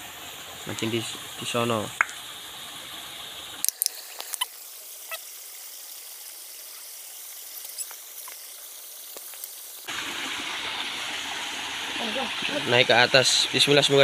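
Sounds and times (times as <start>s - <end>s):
small waterfall into pool: 0.0s - 14.0s.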